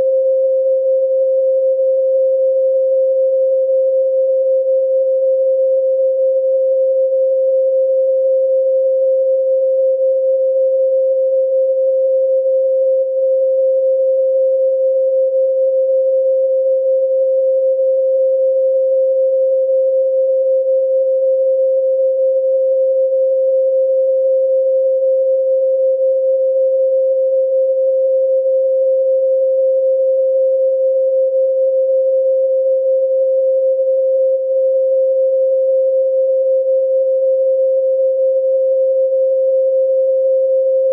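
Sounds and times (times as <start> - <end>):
pure sine tone: 0.0 - 40.9.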